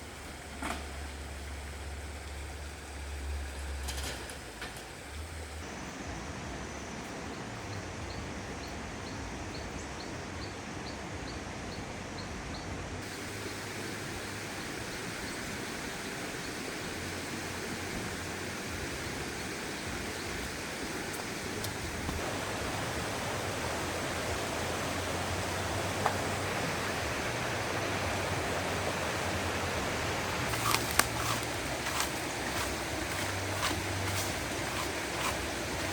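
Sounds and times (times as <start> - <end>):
stream water rushing: 0.0 - 7.7, 12.9 - 35.9.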